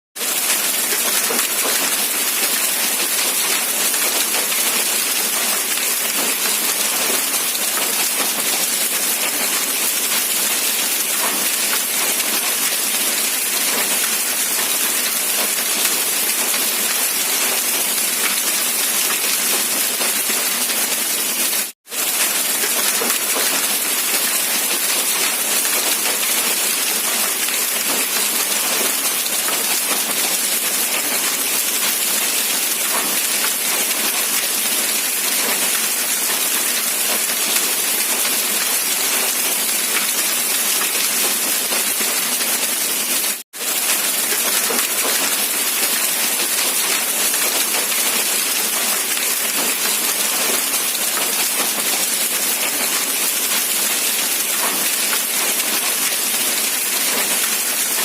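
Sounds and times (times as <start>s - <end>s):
steady rain: 0.2s - 58.0s.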